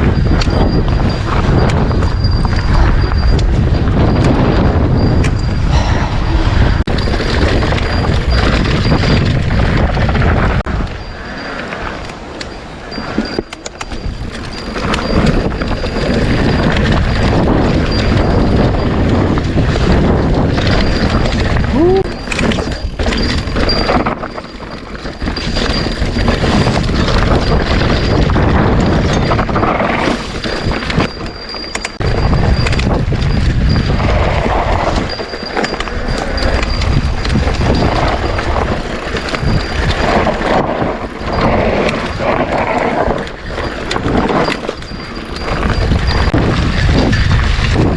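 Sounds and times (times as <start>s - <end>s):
wind rumbling on microphone: 0.0s - 47.9s
bike knocks and rattles: 6.9s - 11.1s, 12.3s - 47.9s.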